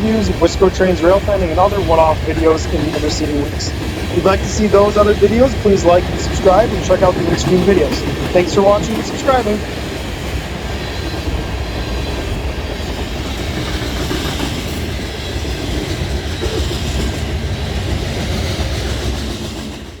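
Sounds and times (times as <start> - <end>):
train rumbling past: 0.0 - 20.0
wheels on rails: 0.0 - 20.0.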